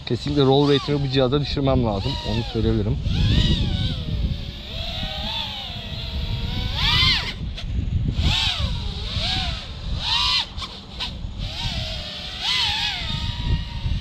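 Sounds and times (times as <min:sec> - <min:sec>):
drone motors whining: 0:00.0 - 0:14.0
wind rumble: 0:00.0 - 0:14.0.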